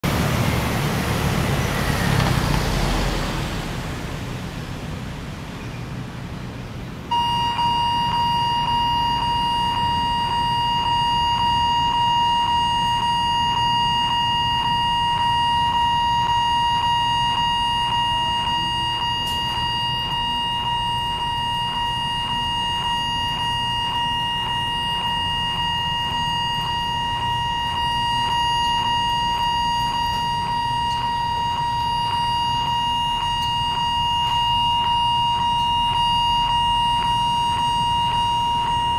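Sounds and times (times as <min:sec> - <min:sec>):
vehicle noise: 0:00.0 - 0:38.9
level-crossing warning bell: 0:07.1 - 0:38.9.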